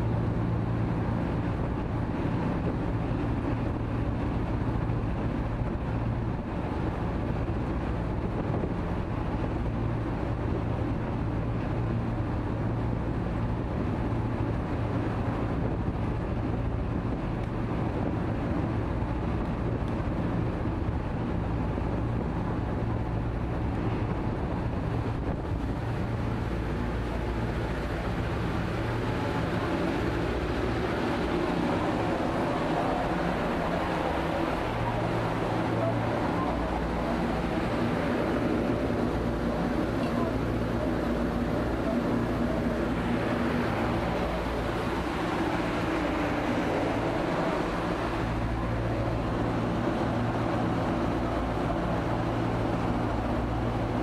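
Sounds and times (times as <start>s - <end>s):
ferry engines droning: 0.0s - 54.0s
propeller wake rushing: 0.0s - 54.0s
wind across deck: 0.0s - 54.0s.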